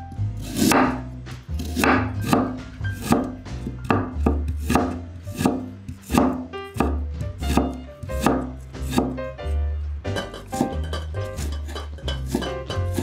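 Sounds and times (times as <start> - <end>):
knife chopping on wooden board: 0.4 - 9.2, 10.1 - 13.0.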